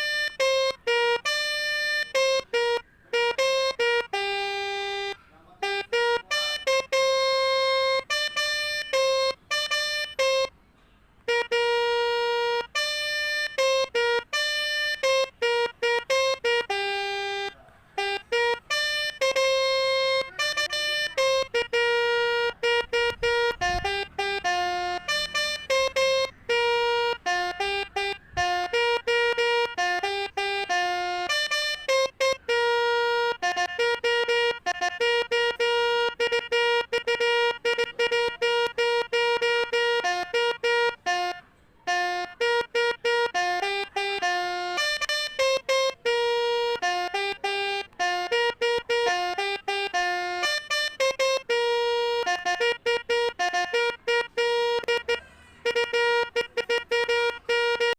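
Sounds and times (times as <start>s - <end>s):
multi-tone horn playing a tune: 0.0s - 57.9s.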